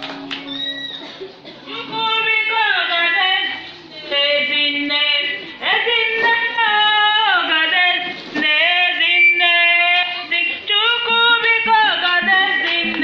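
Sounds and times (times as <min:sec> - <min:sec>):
woman singing: 0:01.7 - 0:13.0.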